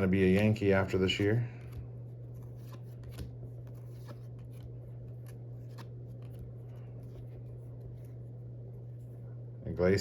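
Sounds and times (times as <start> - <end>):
steady low hum: 0.0 - 10.0
cards flipping by hand: 0.2 - 8.3.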